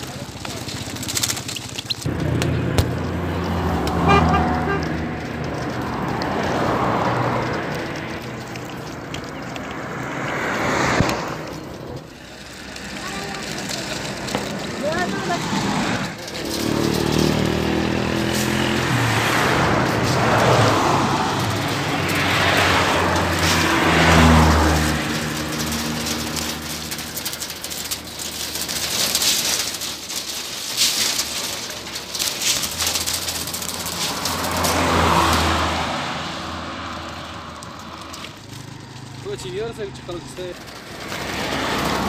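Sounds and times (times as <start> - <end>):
vehicles passing close by: 0.0 - 42.0.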